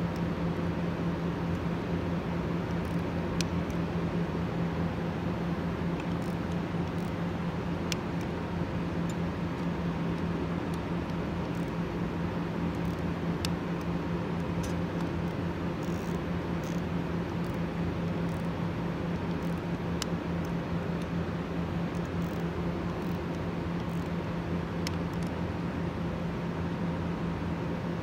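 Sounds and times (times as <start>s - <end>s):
industrial machinery hum: 0.0s - 28.0s.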